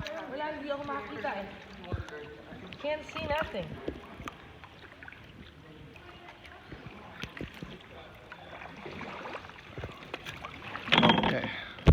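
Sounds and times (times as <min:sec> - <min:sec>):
paddle splashing water: 0:00.0 - 0:11.9.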